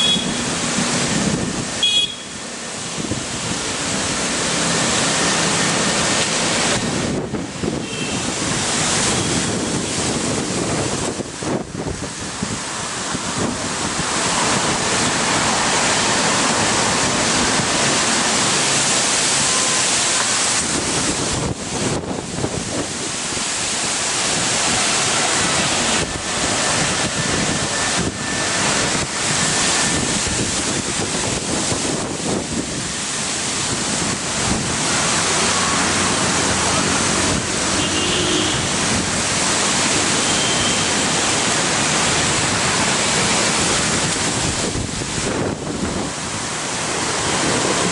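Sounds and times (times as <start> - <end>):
wind buffeting microphone: 0.0 - 1.8, 2.7 - 19.7, 20.3 - 37.8, 38.5 - 40.2, 40.8 - 47.9
storm wind through tree branches: 0.0 - 47.9.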